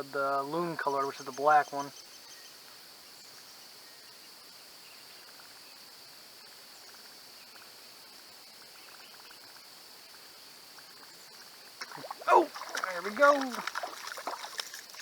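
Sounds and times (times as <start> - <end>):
faint insect trills: 0.0 - 15.0
insect chorus hum: 0.0 - 15.0.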